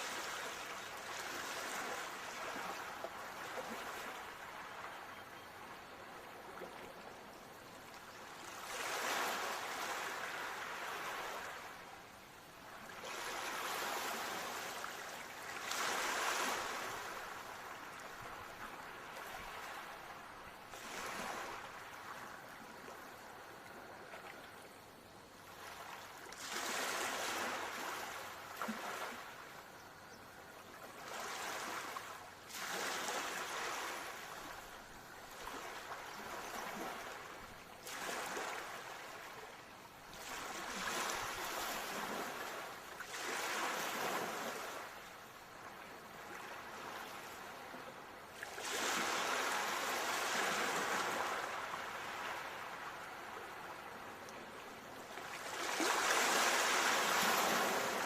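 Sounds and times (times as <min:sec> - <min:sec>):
ocean waves breaking on shore: 0:00.0 - 0:07.1, 0:07.9 - 0:24.8, 0:25.4 - 0:29.7, 0:30.7 - 0:58.0.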